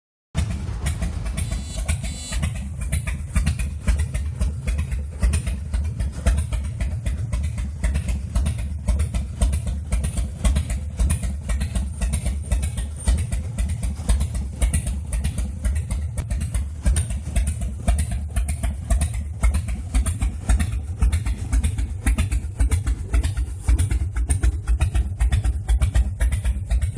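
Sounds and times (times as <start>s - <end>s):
motorcycle engine idling: 0.4s - 26.9s.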